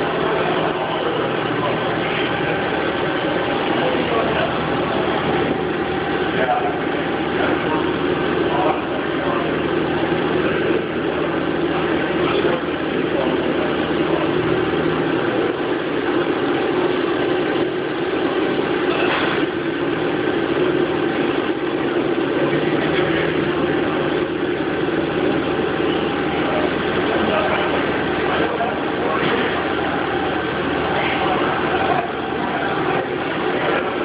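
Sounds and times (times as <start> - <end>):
machine hum and whir: 0.0 - 34.0.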